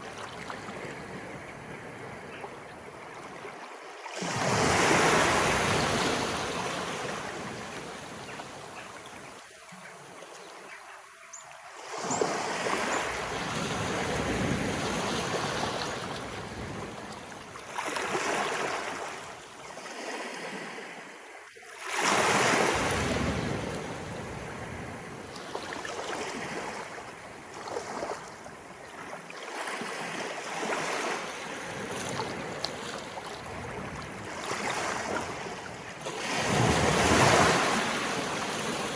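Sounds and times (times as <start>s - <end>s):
waves washing up the shore: 0.0s - 10.5s, 11.7s - 38.9s.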